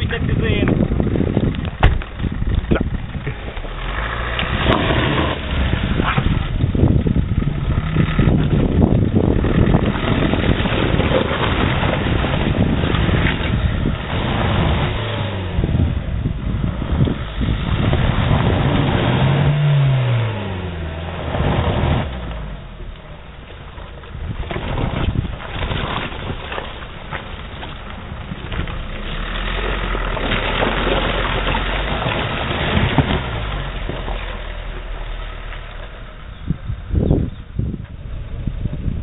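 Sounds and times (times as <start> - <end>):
engine revving under load: 0.9 - 23.4, 28.2 - 38.9.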